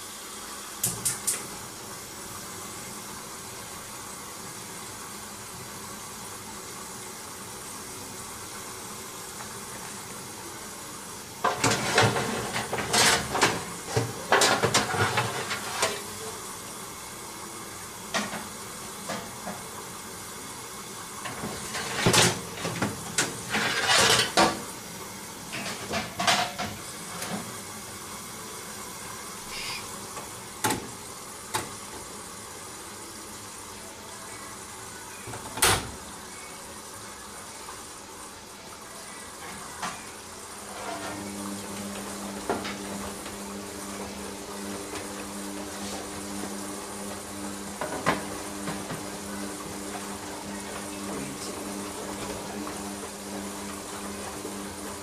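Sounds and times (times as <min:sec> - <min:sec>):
washing machine hiss: 0:00.0 - 0:55.0.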